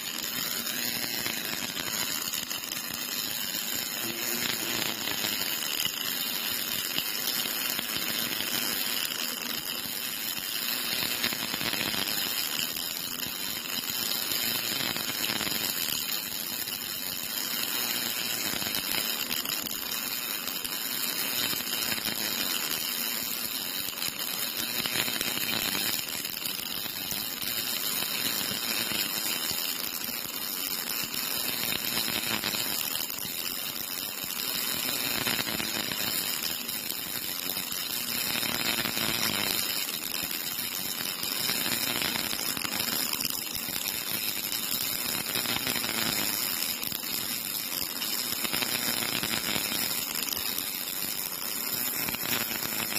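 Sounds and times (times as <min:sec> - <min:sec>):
welding arc crackling hiss: 0:00.0 - 0:52.9
welding spatter: 0:00.0 - 0:52.9.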